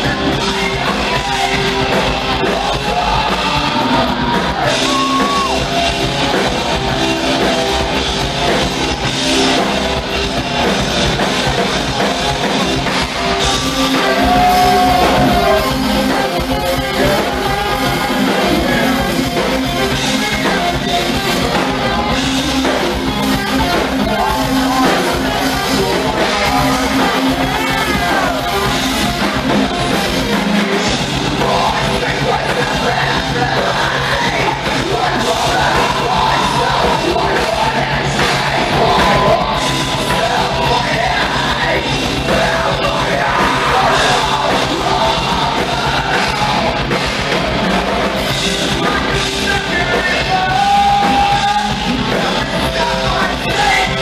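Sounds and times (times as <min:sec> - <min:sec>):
distorted electric guitars: 0:00.0 - 0:54.0
drum kit: 0:00.0 - 0:54.0
person singing: 0:00.0 - 0:54.0.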